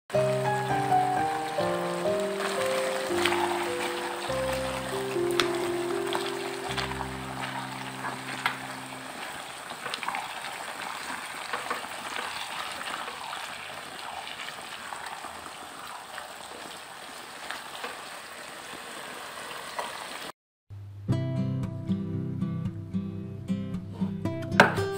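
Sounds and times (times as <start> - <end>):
food sizzling in a wok: 0.1 - 20.3.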